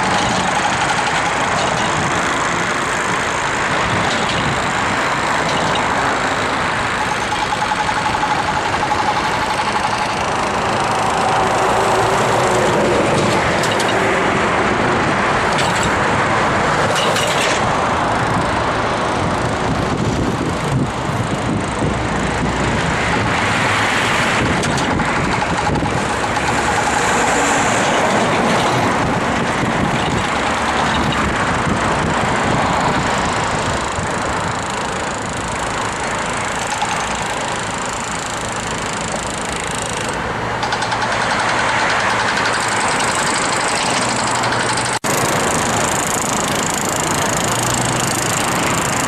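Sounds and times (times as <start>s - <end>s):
road traffic noise: 0.0s - 49.0s.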